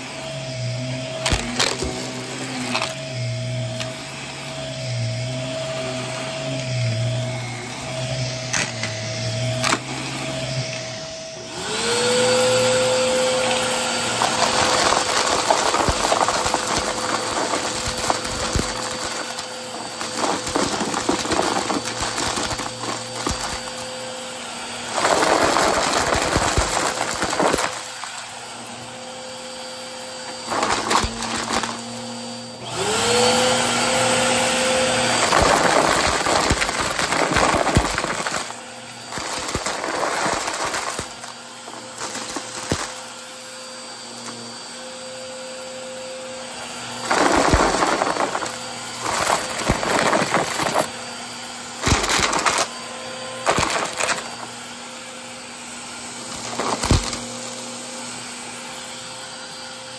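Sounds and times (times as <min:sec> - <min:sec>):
vacuum cleaner motor whining: 0:00.0 - 0:59.9.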